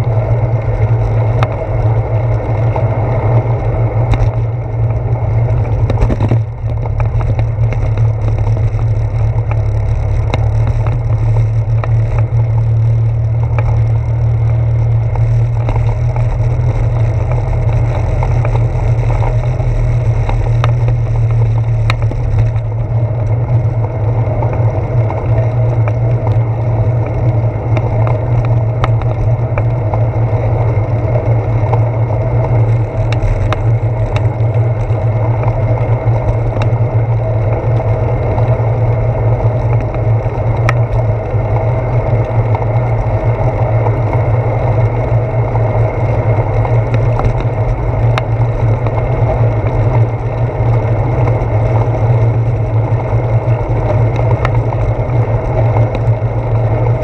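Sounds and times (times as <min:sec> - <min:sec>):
bicycle tyres rolling on asphalt: 0:00.0 - 0:57.0
faint ticks: 0:00.0 - 0:57.0
wind: 0:00.0 - 0:57.0.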